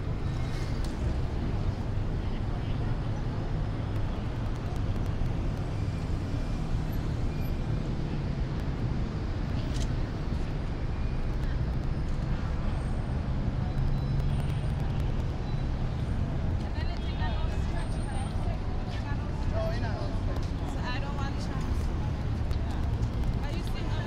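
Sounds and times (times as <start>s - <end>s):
low rumble of background noise: 0.0s - 24.0s.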